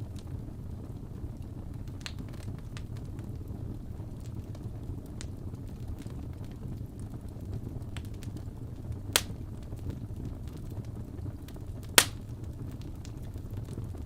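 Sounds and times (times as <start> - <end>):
fireplace crackling: 0.0 - 14.0.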